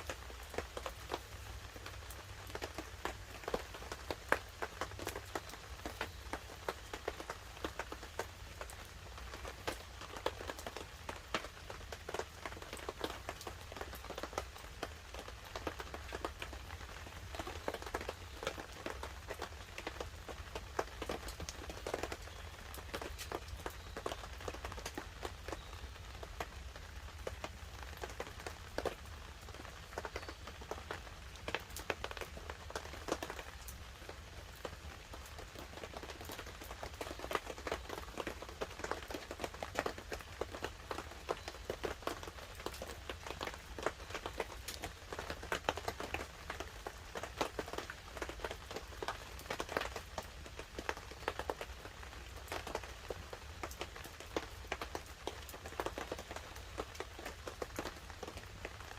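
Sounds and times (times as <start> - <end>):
light rain pattering on a tarp: 0.0 - 58.9.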